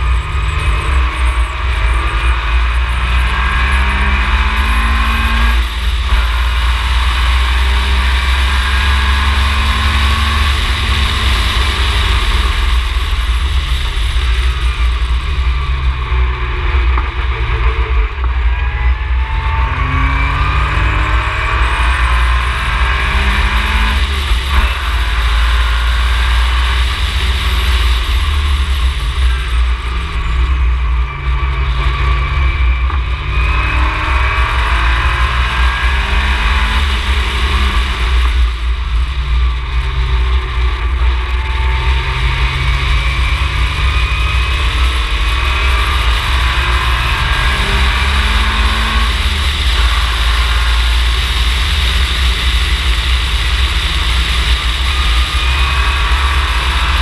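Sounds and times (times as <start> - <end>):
heavy low rumble: 0.0 - 57.0
race car engine revving: 0.0 - 57.0.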